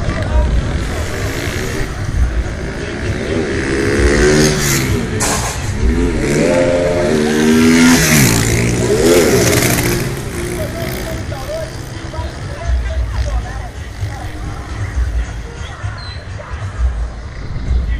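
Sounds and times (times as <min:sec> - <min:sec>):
motorcycle engines revving: 0:00.0 - 0:17.9.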